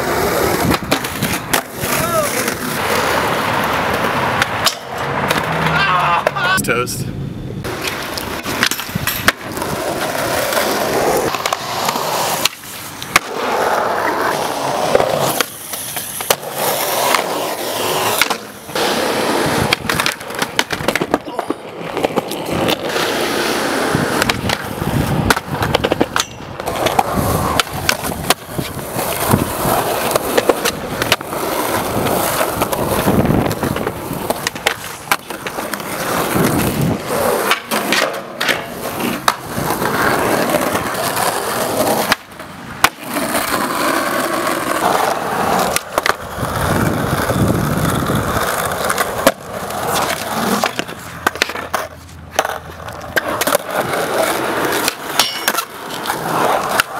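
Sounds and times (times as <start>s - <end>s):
skateboard clacks and knocks: 0.0s - 6.5s, 7.6s - 56.9s
skateboard wheels rumbling on concrete: 0.0s - 56.9s.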